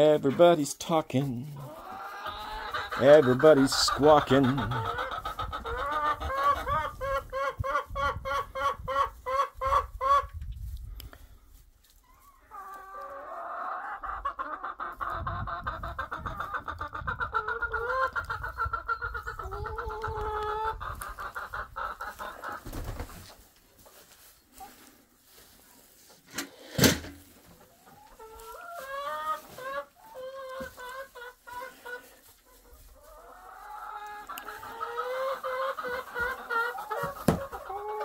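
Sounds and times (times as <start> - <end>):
hens clucking and squawking: 0.0 - 38.0.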